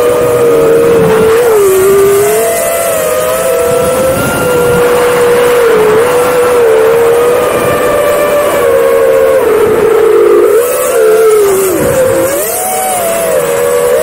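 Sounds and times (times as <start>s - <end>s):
drone motors and propellers buzzing: 0.0s - 14.0s.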